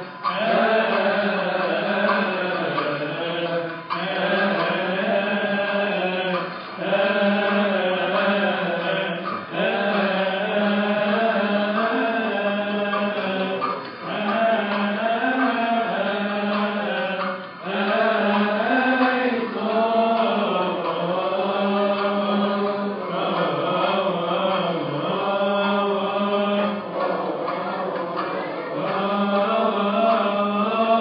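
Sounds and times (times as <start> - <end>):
men chanting hymn in unison: 0.0 - 31.0.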